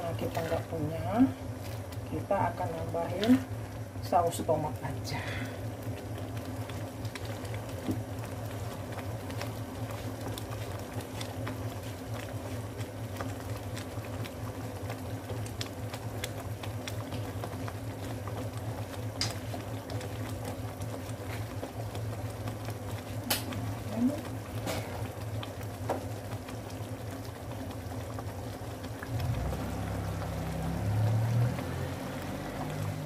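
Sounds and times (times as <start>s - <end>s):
sauce bubbles popping: 0.0s - 33.0s.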